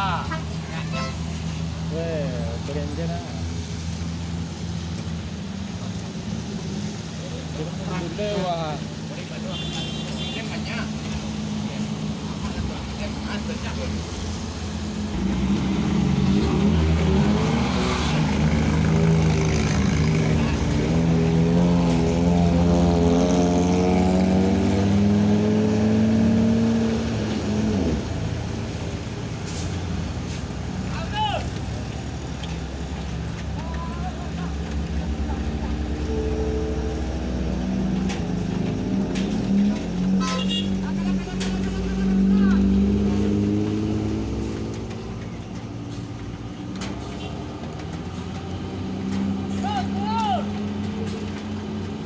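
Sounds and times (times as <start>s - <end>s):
vehicle engine running hard: 0.0s - 52.0s.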